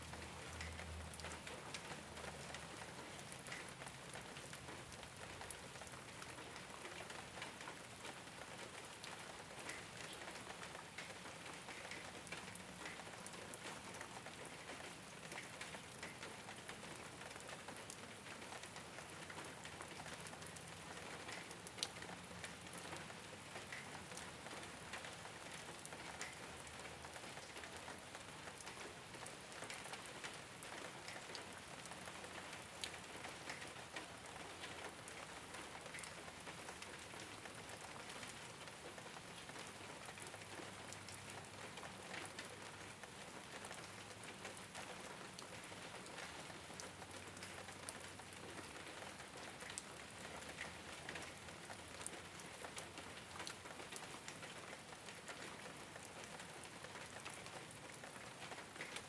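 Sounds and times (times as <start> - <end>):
rain on a rooftop: 0.0 - 59.0
raindrops ticking: 0.0 - 59.0.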